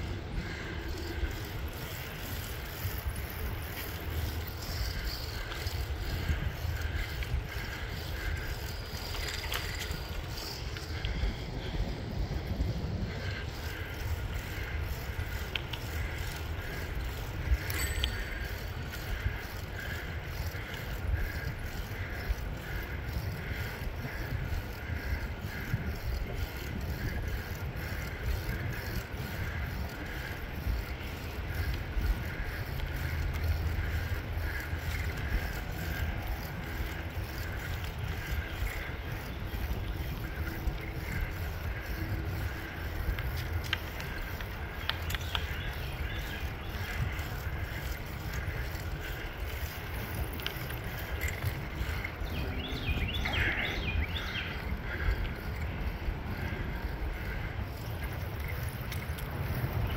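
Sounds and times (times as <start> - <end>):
faint regular ticks: 0.0 - 59.9
wind rumble on microphone: 0.0 - 59.9.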